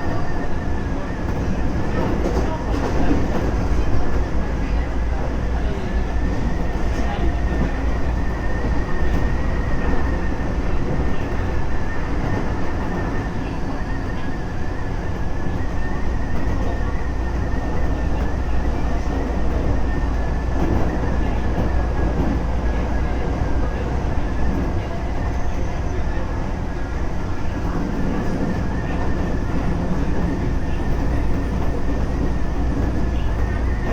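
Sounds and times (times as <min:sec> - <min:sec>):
wheels rumbling on rail: 0:00.0 - 0:33.9.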